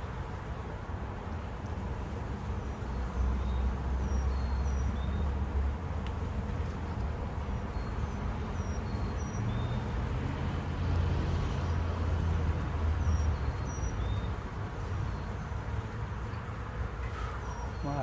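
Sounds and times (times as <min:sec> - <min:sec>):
honeybees buzzing: 0:01.2 - 0:18.0.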